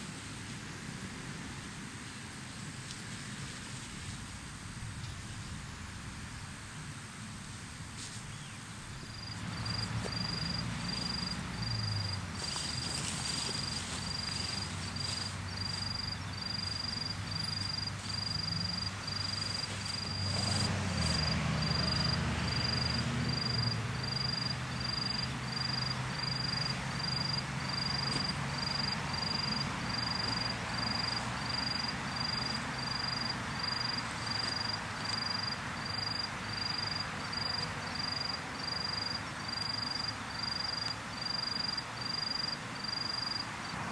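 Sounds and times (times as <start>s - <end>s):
soft steady hiss: 0.0s - 43.9s
cricket chirping: 8.3s - 43.9s.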